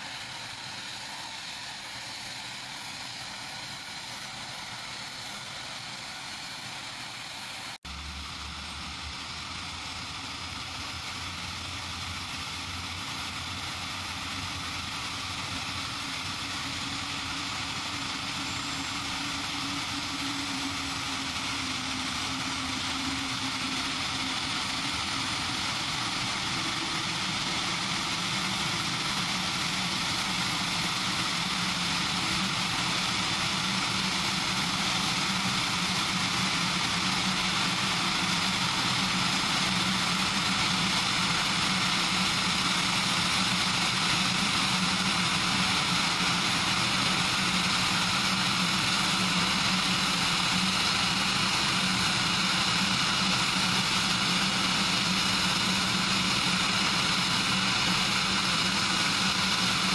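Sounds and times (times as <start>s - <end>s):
helicopter starting up: 0.0s - 59.9s.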